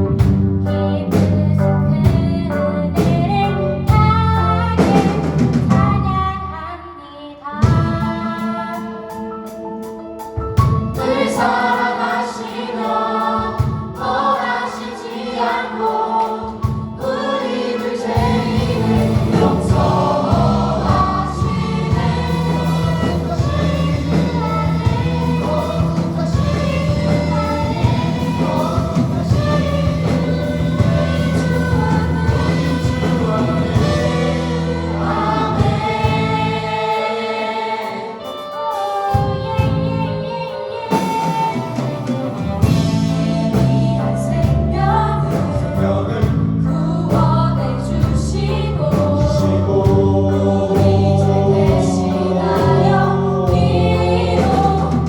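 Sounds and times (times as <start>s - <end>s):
drums: 0.0s - 6.6s, 7.5s - 55.0s
instrumental band accompaniment: 0.0s - 6.6s, 7.6s - 55.0s
bass: 0.0s - 55.0s
choir singing gospel: 0.0s - 55.0s.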